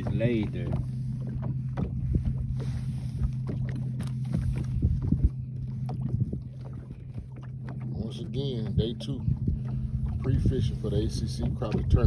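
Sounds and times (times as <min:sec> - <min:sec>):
boat low hum: 0:00.0 - 0:12.0.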